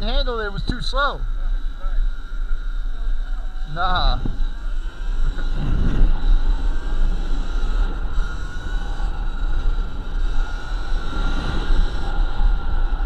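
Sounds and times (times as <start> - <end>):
electric motor whine: 0.0 - 13.0
wind rumble on microphone: 0.0 - 13.0.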